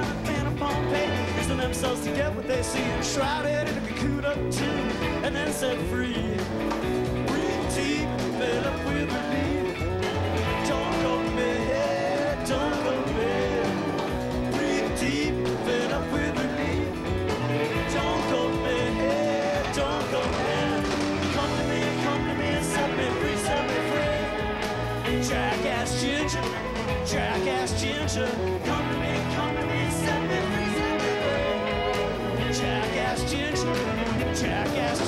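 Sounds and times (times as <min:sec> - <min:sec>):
drums beating: 0:00.0 - 0:35.0
electric guitar: 0:00.0 - 0:35.0
rock band playing: 0:00.0 - 0:35.0.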